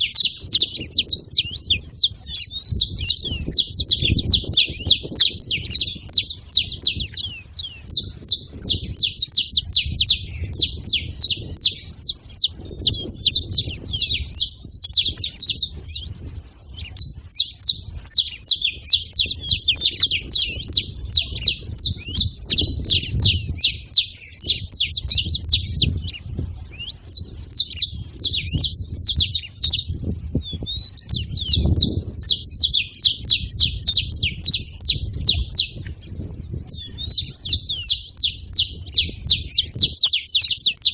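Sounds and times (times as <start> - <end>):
finches chattering: 0.0 - 40.9.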